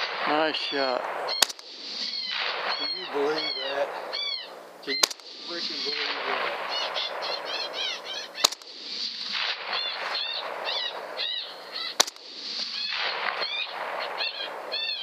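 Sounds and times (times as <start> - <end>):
rifle shot: 0.0 - 4.2, 4.9 - 11.2, 11.9 - 15.0
coyote yelping: 0.6 - 9.0, 9.6 - 15.0.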